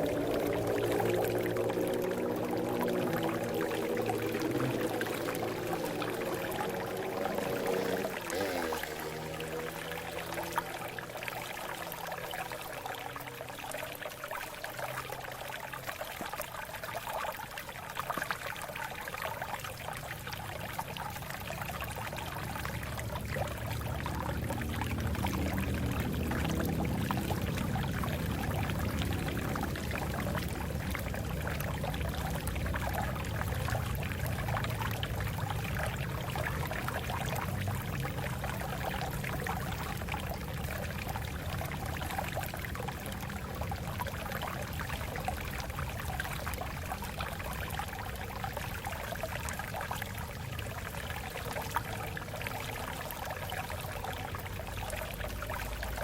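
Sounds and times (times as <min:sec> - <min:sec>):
water flowing over rocks: 0:00.0 - 0:56.0.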